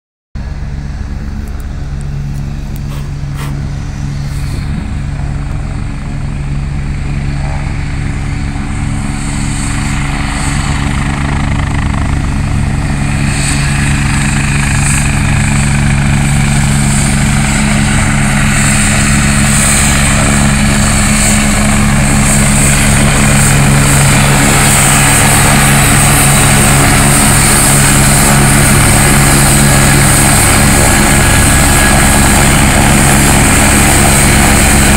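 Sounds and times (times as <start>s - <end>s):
helicopter rotor drone: 0.4s - 34.9s
turbine whine: 0.4s - 34.9s.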